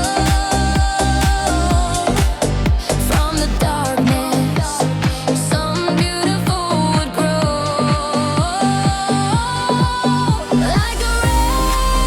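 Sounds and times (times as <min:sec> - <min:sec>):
fast kick drum: 0:00.0 - 0:11.5
electronic dance music: 0:00.0 - 0:12.0.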